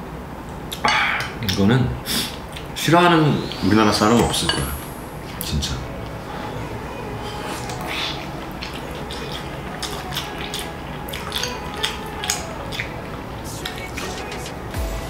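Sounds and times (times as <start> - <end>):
chewing: 0.7 - 3.6, 5.2 - 14.7
slurping: 0.7 - 14.8.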